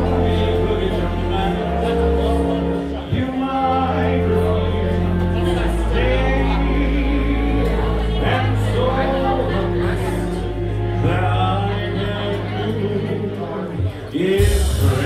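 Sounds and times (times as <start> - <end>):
held bass notes: 0.0 - 15.0
live band music: 0.0 - 15.0
man singing into a microphone: 0.0 - 15.0.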